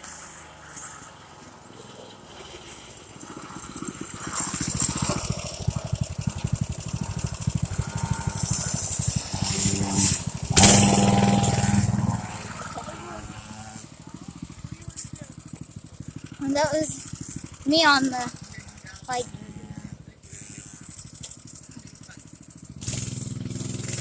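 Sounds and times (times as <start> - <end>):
dirt bike engine under throttle: 0.0 - 24.0.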